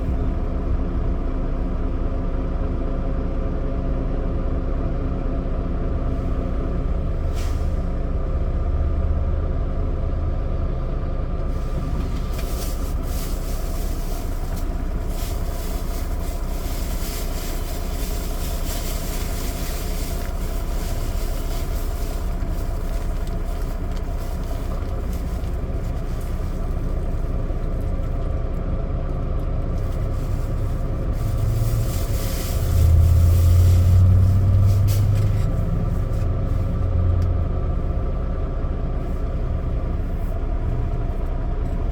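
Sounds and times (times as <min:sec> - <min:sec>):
road noise: 0:00.0 - 0:41.9
truck diesel engine running: 0:00.0 - 0:41.9.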